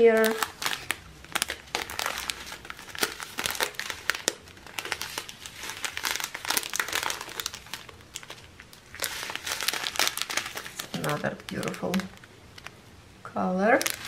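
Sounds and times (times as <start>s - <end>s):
plastic bags crinkling: 0.0s - 12.8s, 13.6s - 14.0s.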